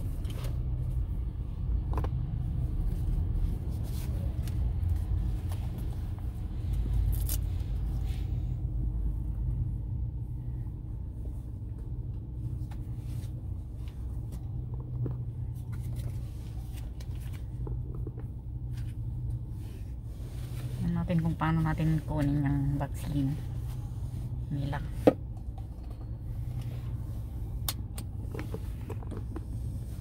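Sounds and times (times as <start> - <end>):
car rumble inside cabin: 0.0 - 30.0.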